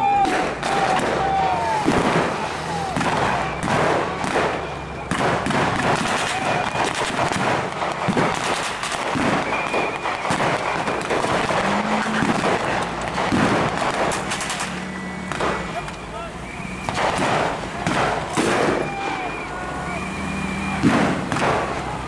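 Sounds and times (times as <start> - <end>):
blank gunfire crackling: 0.2 - 16.1, 16.7 - 19.4, 20.7 - 22.0.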